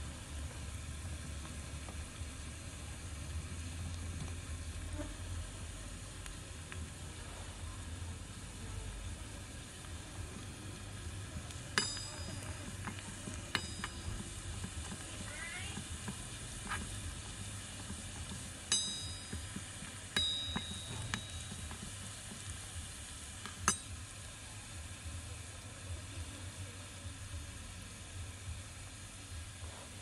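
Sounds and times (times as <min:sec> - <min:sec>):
oil sizzling in a wok: 0:00.0 - 0:30.0.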